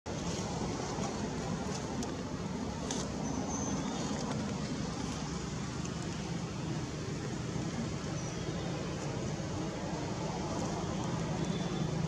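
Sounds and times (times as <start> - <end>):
outdoor background rumble: 0.1 - 12.0.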